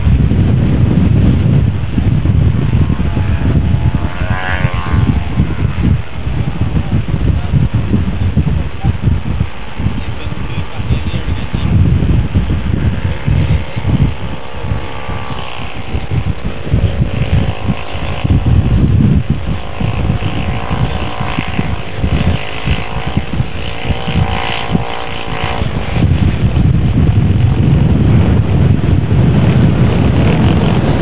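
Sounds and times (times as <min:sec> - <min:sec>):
model aircraft engine buzzing: 0:00.0 - 0:31.0
wind buffeting microphone: 0:00.0 - 0:31.0.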